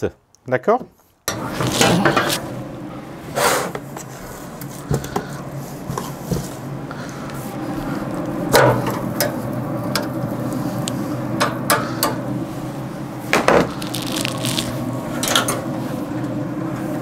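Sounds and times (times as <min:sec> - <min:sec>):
steady low hum: 0:01.3 - 0:17.0.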